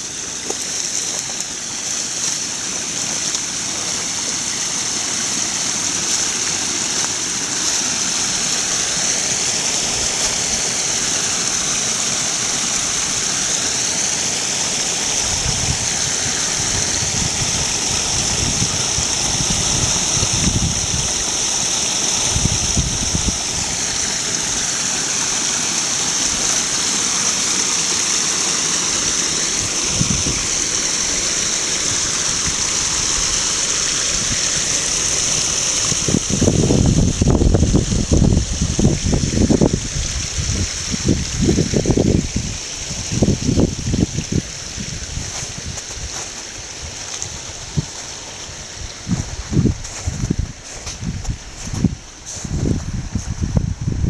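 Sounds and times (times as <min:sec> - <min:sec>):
brook babbling: 0:00.0 - 0:52.4.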